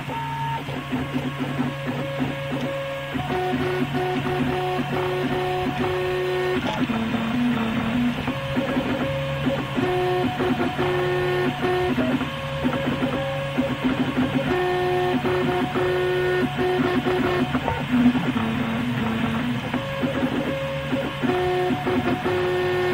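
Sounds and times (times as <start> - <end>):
stepper motors whining: 0.0 - 22.9.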